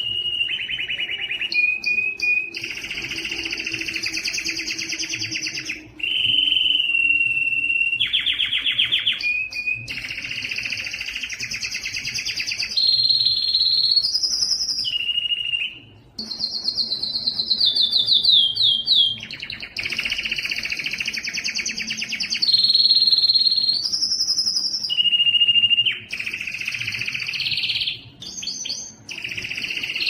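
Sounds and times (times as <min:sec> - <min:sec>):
canary singing: 0:00.0 - 0:30.0.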